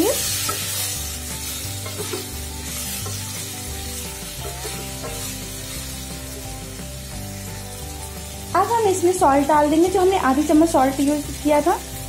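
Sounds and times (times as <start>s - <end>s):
soft background music: 0.0s - 12.0s
vegetables sizzling in a pan: 0.0s - 12.0s.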